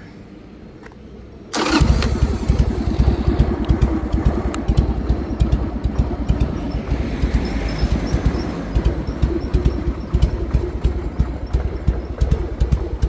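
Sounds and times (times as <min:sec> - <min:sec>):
motorcycle engine starting and idling: 0:01.5 - 0:13.0.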